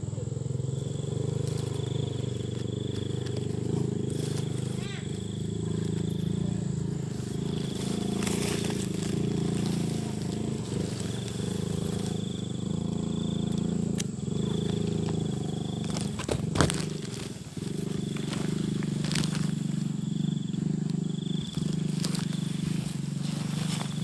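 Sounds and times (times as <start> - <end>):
high pulsing insect trill: 0.0 - 24.0
steady low droning hum: 0.0 - 24.0.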